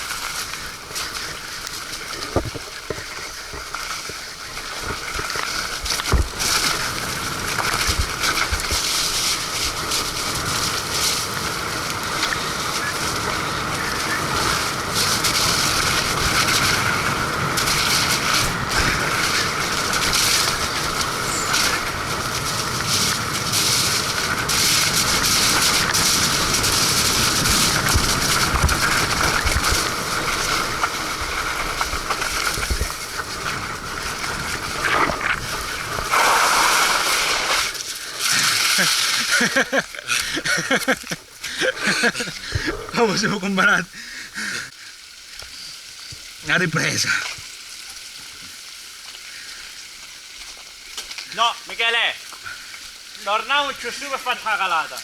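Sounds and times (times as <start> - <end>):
bike rattling over rough ground: 0.0 - 44.5
bike tyres rushing on mud: 0.0 - 55.0.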